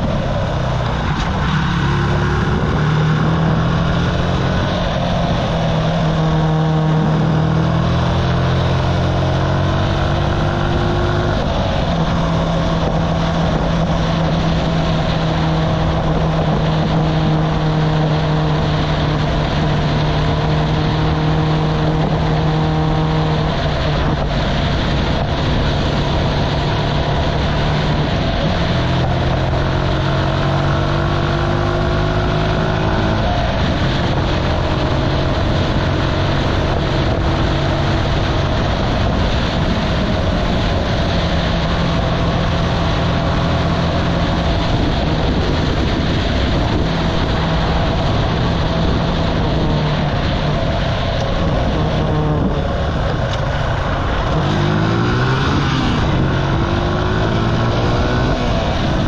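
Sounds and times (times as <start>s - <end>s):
motorcycle engine running: 0.0s - 59.0s
wind rush over microphone: 0.0s - 59.0s.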